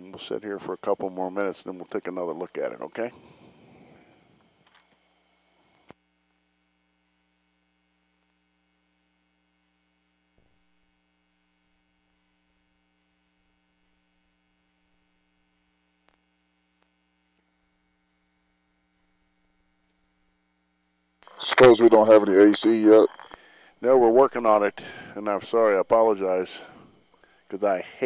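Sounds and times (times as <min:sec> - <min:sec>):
faint electrical hum: 0:00.0 - 0:28.0.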